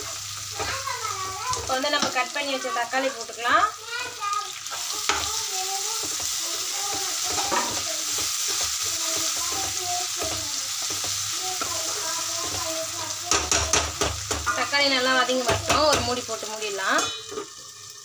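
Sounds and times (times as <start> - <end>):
spoon stirring and scraping pan: 0.0 - 3.2, 4.6 - 17.7
vegetables sizzling in oil: 0.0 - 18.0.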